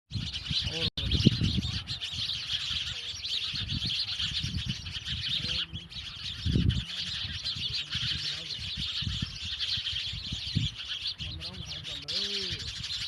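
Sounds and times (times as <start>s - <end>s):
sparrows chirping: 0.1s - 13.0s.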